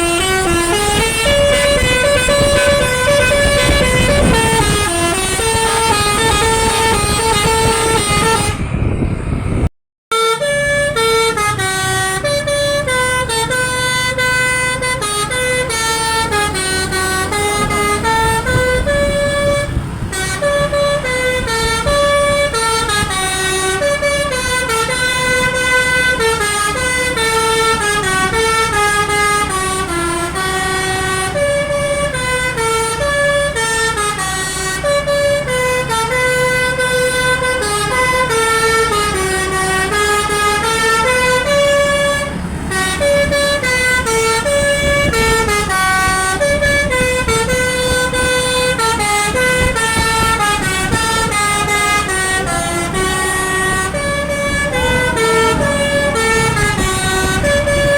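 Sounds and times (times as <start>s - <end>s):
multi-tone bus horn melody: 0.0s - 57.9s.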